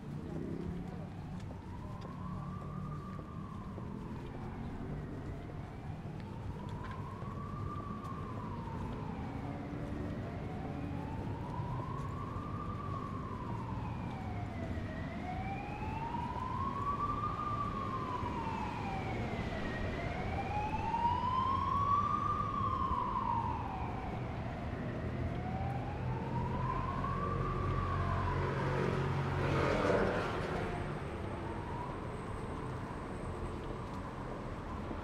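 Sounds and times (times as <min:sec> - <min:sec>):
emergency siren wailing: 0:00.0 - 0:35.0
street traffic: 0:00.0 - 0:35.0.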